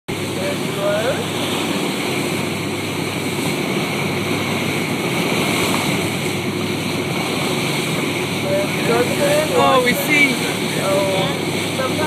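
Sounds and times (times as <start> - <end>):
boat engine running: 0.1 - 12.0
wind and water rushing: 0.1 - 12.0.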